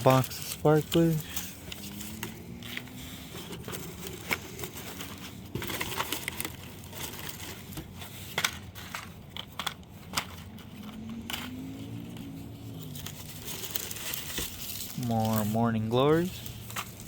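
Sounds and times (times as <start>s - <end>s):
plastic and cardboard rustling: 0.0s - 17.0s.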